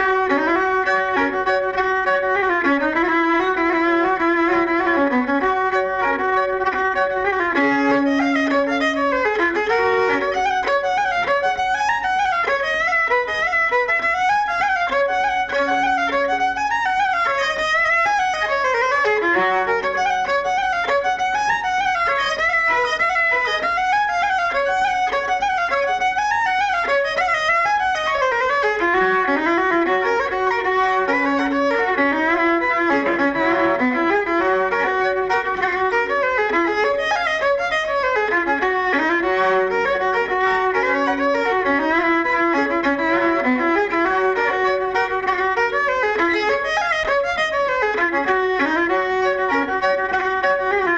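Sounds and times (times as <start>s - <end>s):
fiddle dance music: 0.0s - 50.9s.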